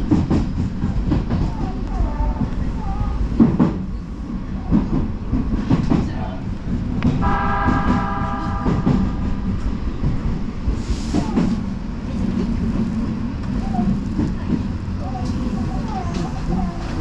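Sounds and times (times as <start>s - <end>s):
electric train rumbling on track: 0.0s - 17.0s.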